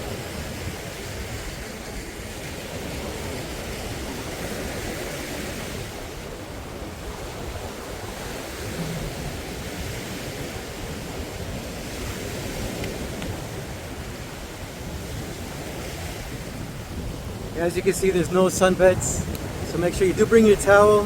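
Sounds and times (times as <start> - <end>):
surf washing on sandy beach: 0.0 - 21.0
wind rumbling on microphone: 0.0 - 21.0.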